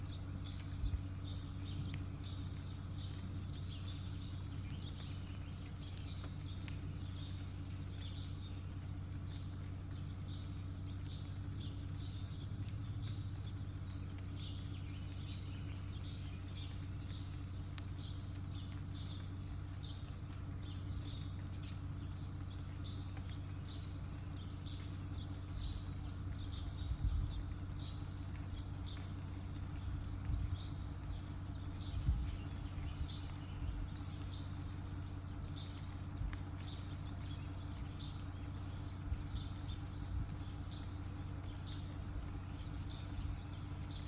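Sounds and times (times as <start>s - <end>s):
small birds chirping: 0.0s - 44.0s
steady low hum: 0.0s - 44.0s.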